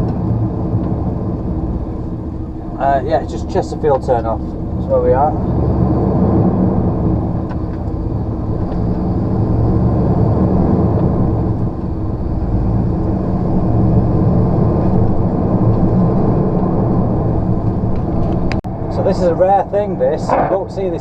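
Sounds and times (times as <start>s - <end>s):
diesel engine drone in cab: 0.0s - 21.0s
road noise: 0.0s - 21.0s.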